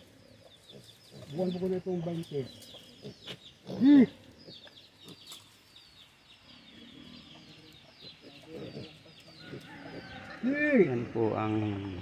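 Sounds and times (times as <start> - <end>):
chicks peeping: 0.2 - 10.4.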